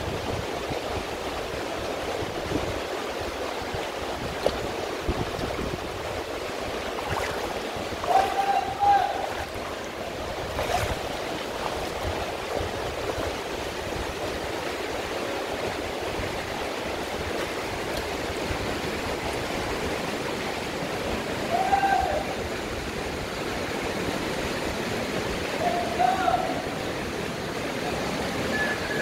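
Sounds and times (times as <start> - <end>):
river flowing over rocks: 0.0 - 29.0.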